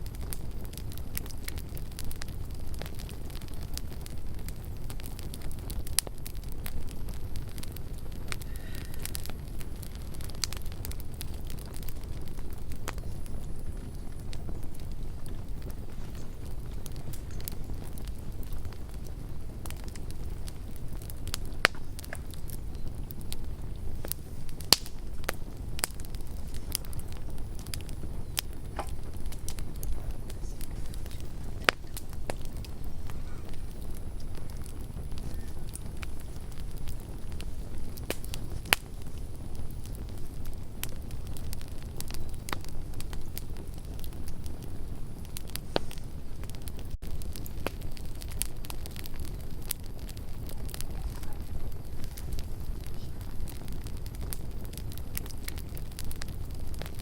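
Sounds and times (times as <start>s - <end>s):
campfire crackling: 0.0s - 57.0s
low rumble of flames: 0.0s - 57.0s.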